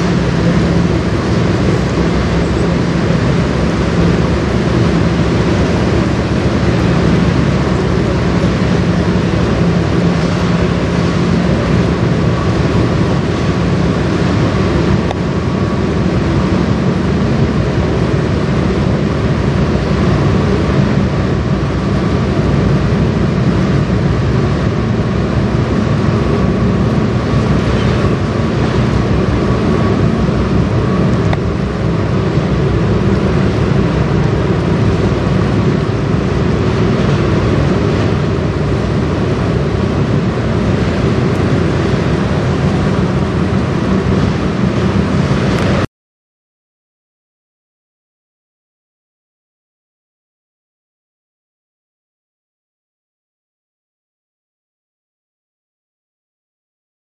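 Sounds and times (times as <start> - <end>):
diesel engines droning: 0.0 - 45.9
water washing along hull: 0.0 - 45.9.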